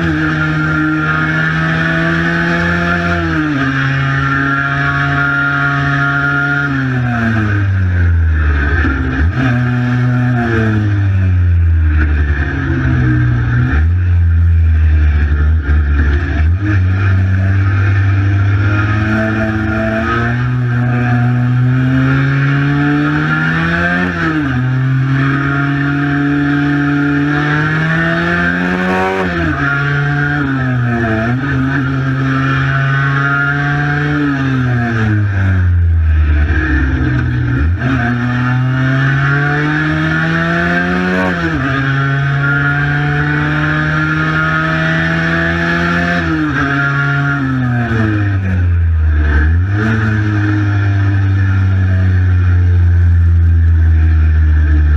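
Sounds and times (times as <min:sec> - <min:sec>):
two-stroke motorcycle engine revving: 0:00.0 - 0:53.2.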